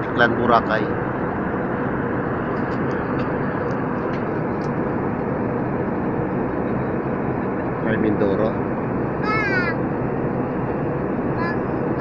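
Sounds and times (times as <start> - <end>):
airliner engine drone: 0.0 - 12.0.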